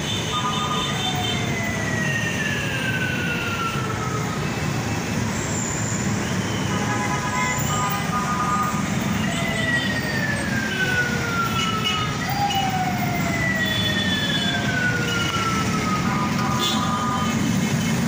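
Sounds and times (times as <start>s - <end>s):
heavy city traffic: 0.0s - 18.0s
siren sweeping: 0.3s - 17.7s.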